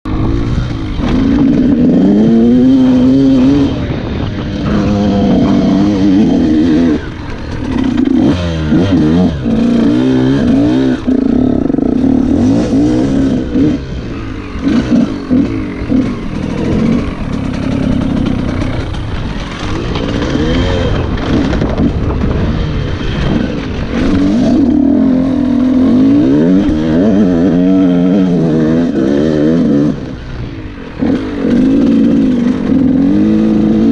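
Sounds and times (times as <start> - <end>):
two-stroke dirt bike engine revving: 0.1 - 33.9.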